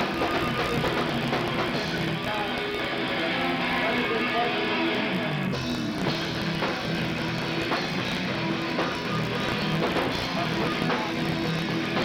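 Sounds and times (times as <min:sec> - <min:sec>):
punk band playing live: 0:00.0 - 0:12.0.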